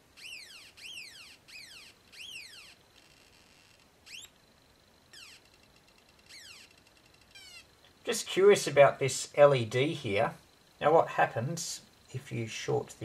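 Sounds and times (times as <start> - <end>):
faint steady tone: 0.0 - 13.0.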